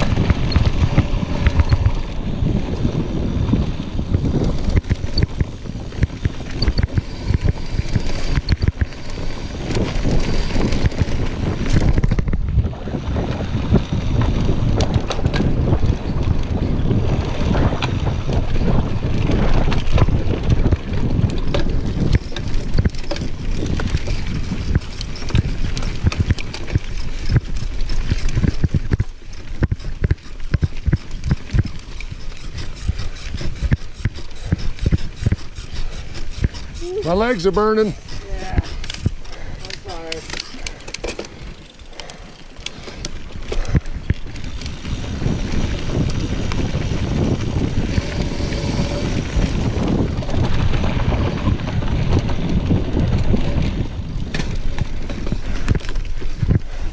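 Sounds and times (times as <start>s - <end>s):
bike rattling and clicking: 0.0s - 56.9s
bike tyres on dirt: 0.0s - 56.9s
wind buffeting microphone: 0.0s - 56.9s.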